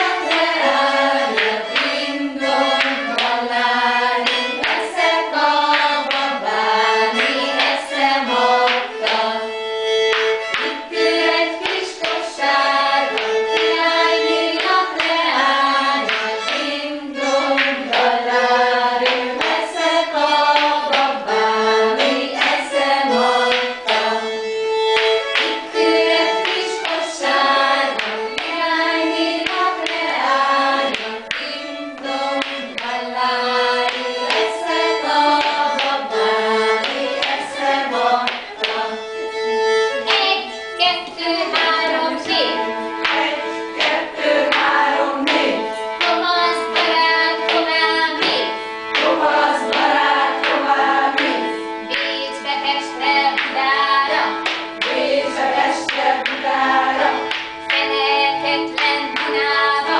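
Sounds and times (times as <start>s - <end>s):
instrumental accompaniment: 0.0s - 59.9s
women singing together: 0.0s - 59.9s.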